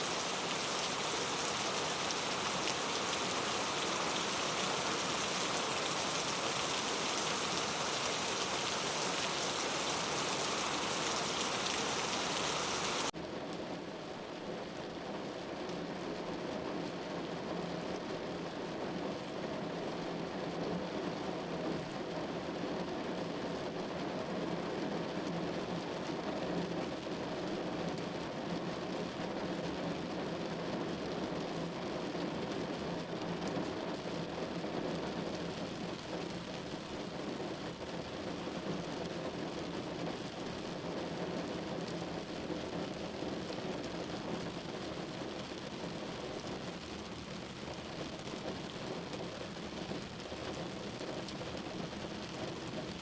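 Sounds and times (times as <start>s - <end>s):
rain pattering: 0.0s - 13.7s, 21.6s - 53.0s.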